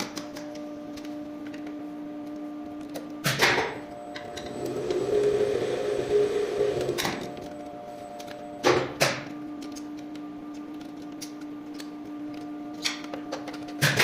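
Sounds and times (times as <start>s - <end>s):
steady low hum: 0.4s - 12.8s.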